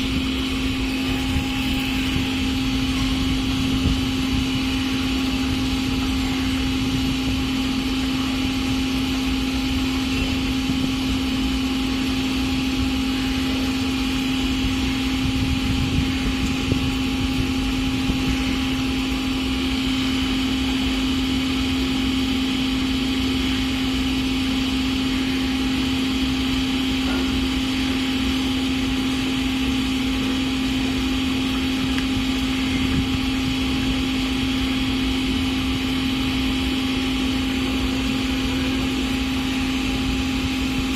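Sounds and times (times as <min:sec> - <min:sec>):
motor humming: 0:00.0 - 0:40.9.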